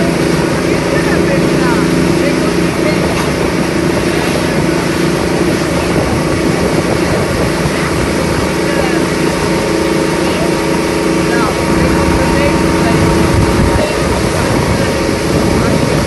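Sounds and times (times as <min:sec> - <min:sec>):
motorboat engine running: 0:00.0 - 0:16.0
rush of boat wake: 0:00.0 - 0:16.0
wind: 0:00.0 - 0:16.0.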